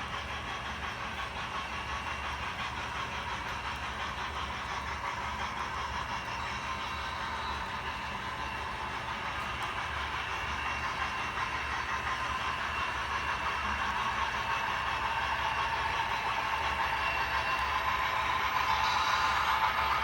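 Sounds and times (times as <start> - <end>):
model train running: 0.0 - 20.0.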